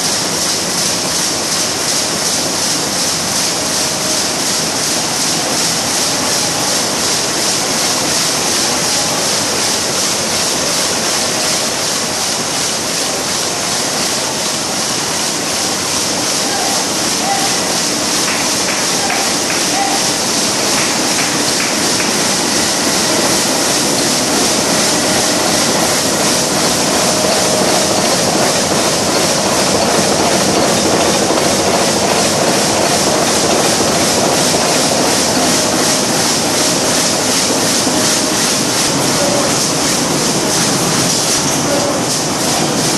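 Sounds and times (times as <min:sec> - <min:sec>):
embroidery machine clatter: 0:00.0 - 0:42.9.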